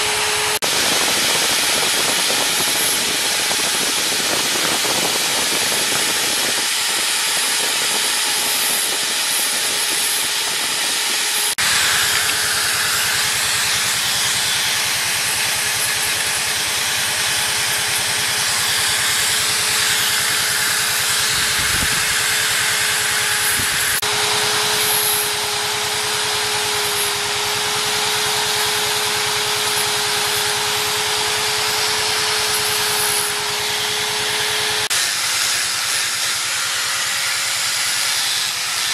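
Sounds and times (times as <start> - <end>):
rotary tool grinding wood: 0.0 - 38.9.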